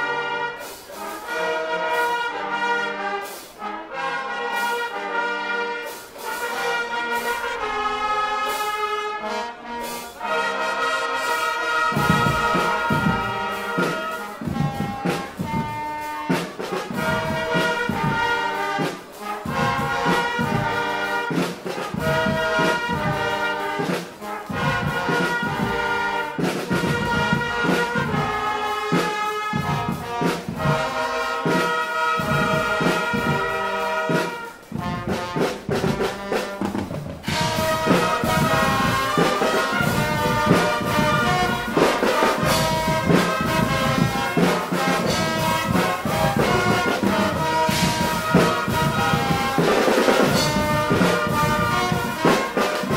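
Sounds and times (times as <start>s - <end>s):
snare and bass drums: 0.0s - 52.9s
trumpets and trombones: 0.0s - 52.9s.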